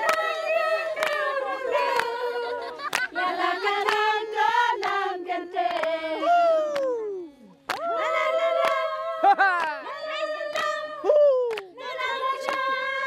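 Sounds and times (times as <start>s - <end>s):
group of voices singing: 0.0s - 13.0s.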